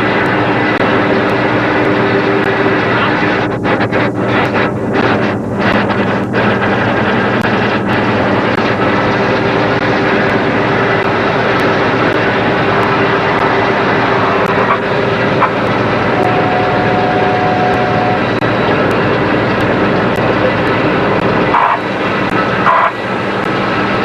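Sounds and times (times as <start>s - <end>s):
boat engine running: 0.0s - 24.0s
faint steady whine: 0.0s - 24.0s
rush of wind: 0.0s - 24.0s
water noise: 0.0s - 24.0s.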